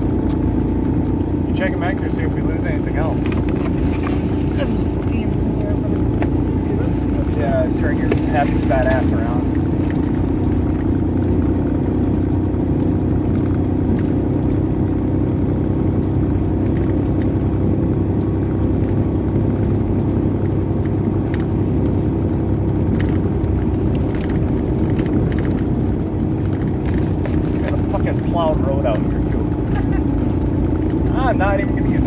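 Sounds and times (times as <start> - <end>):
car engine and road rumble: 0.0 - 32.0
light rattles and clicks: 0.2 - 12.2, 16.3 - 17.6, 18.8 - 32.0.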